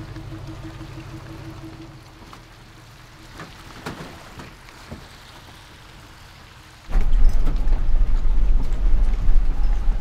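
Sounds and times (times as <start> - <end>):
truck rumbling on rough road: 0.0 - 10.0.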